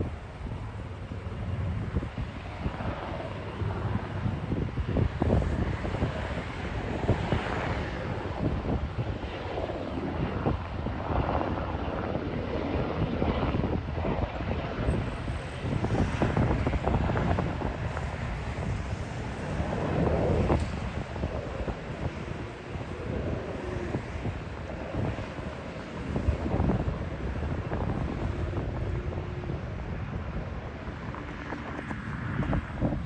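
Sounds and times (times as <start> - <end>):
helicopter rotor and engines: 0.0 - 33.0
wind buffeting microphone: 0.0 - 33.0.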